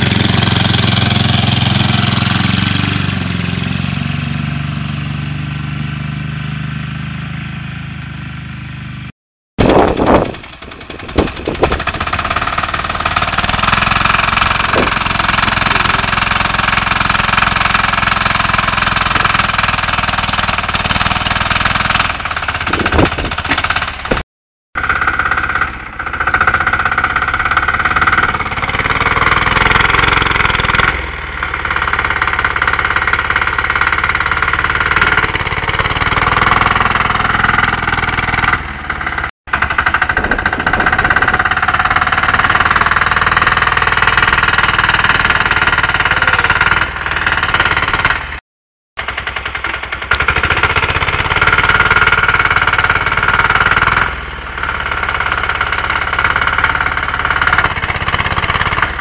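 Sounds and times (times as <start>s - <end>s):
diesel tractor engine clattering: 0.0s - 9.0s, 9.6s - 24.2s, 24.8s - 48.4s, 49.0s - 59.0s.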